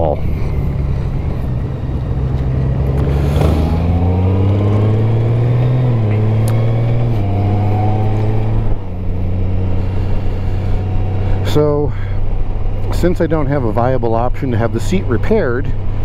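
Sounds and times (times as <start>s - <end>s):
motorcycle engine accelerating: 0.0s - 14.4s.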